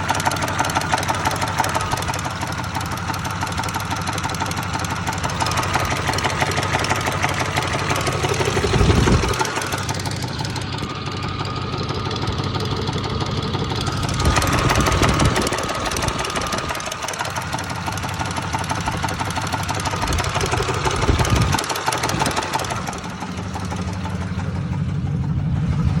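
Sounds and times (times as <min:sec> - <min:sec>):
engine knocking rhythmically: 0:00.0 - 0:26.0.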